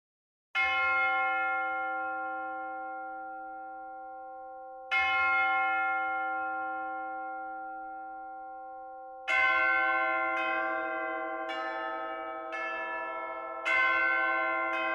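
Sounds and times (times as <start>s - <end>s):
church bells tolling: 0.6s - 14.9s.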